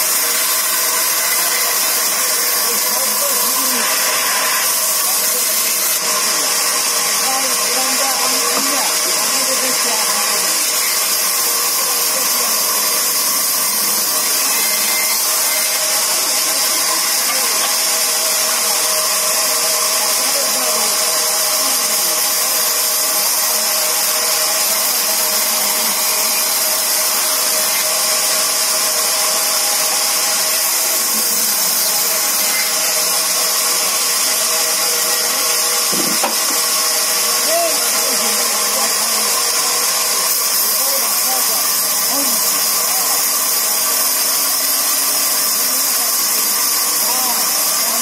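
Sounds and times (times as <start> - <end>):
band saw cutting log: 0.0 - 48.0.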